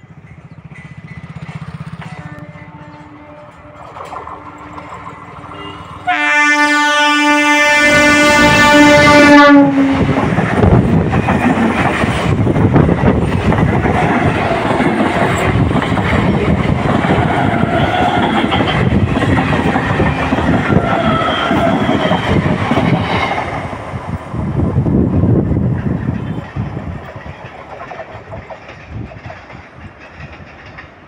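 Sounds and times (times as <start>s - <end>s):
train wheels clattering on track: 0.0s - 6.5s, 8.1s - 31.0s.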